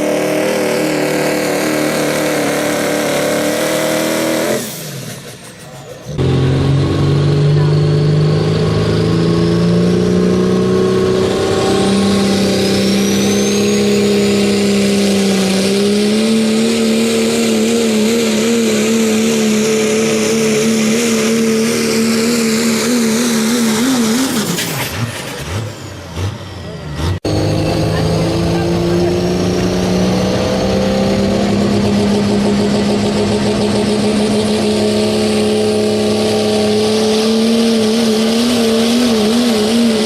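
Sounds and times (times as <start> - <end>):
truck engine at high revs: 0.0 - 40.0
turbocharger whistle: 0.0 - 40.0.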